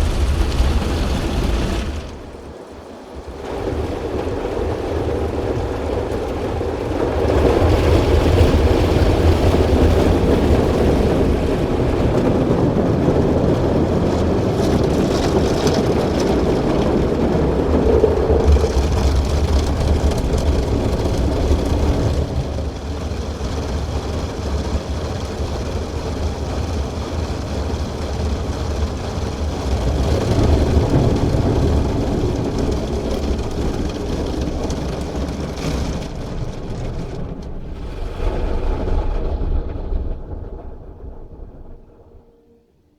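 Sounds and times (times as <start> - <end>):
car wash machine hum: 0.0 - 38.1.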